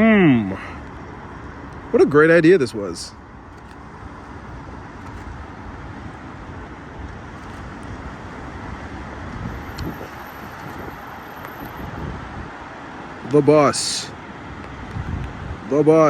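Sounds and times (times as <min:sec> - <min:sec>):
cars passing on wet street: 0:00.2 - 0:16.0.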